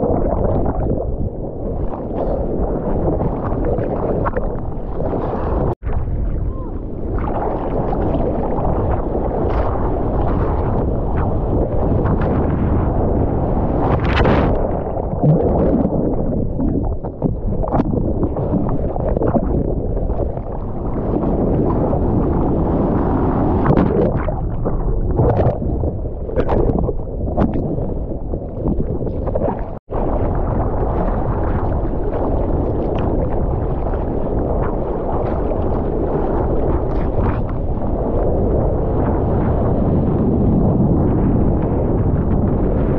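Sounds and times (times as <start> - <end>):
ocean water splashing: 0.0 - 41.4
wind buffeting microphone: 0.0 - 42.9.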